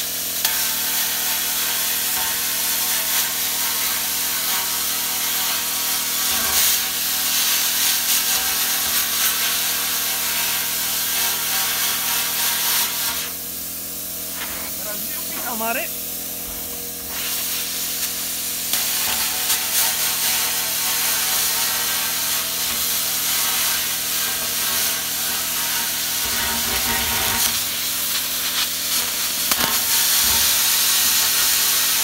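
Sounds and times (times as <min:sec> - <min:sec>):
plasma cutter hissing: 0:00.1 - 0:32.0.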